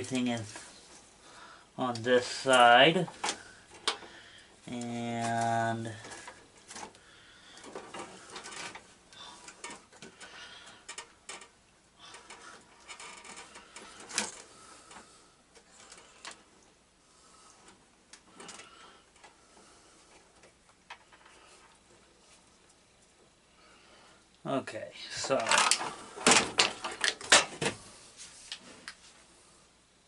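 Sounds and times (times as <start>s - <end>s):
hands rustling wires: 0.0s - 24.4s, 25.0s - 29.4s.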